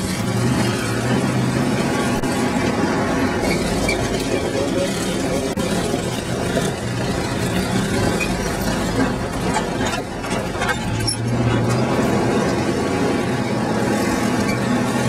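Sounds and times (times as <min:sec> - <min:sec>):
vehicle engine running at low speed: 0:00.0 - 0:15.0.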